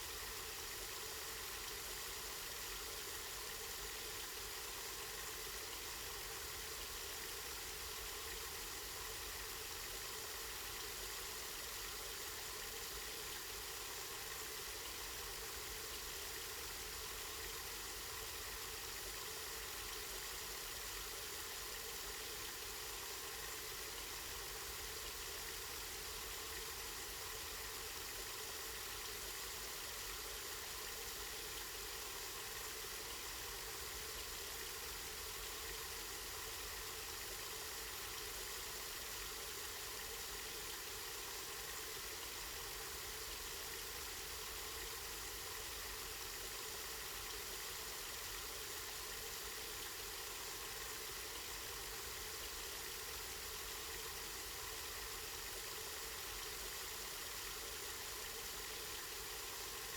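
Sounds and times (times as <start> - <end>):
spring water flowing: 10.0 - 59.9.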